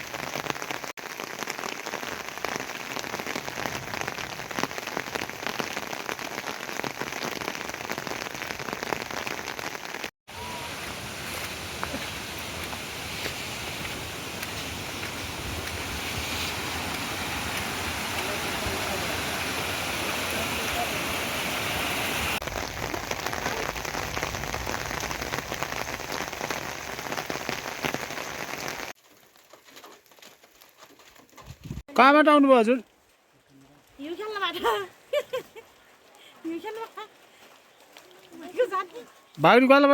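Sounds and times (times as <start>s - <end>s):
raindrops striking a surface: 0.0s - 39.9s.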